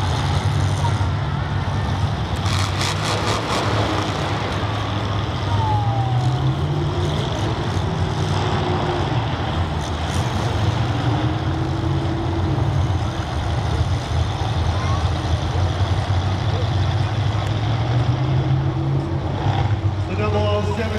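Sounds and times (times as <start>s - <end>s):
car engines rumbling: 0.0s - 20.9s.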